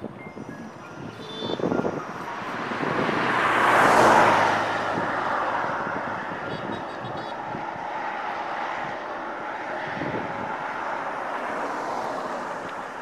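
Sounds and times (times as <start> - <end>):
vehicle passing by: 0.4 - 13.0.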